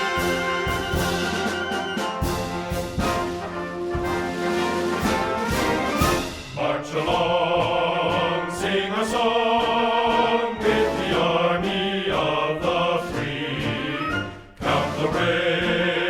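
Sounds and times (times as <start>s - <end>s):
background music with choir: 0.0s - 16.0s.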